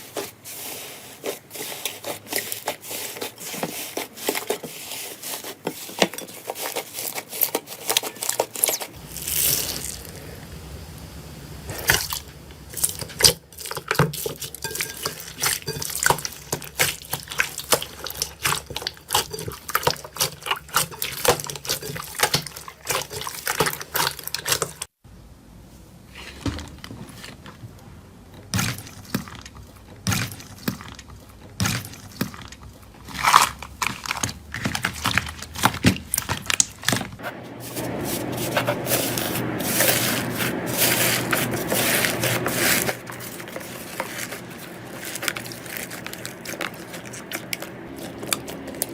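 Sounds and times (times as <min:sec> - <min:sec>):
slime squishing: 0:00.0 - 0:10.6, 0:11.7 - 0:24.9, 0:28.4 - 0:48.9.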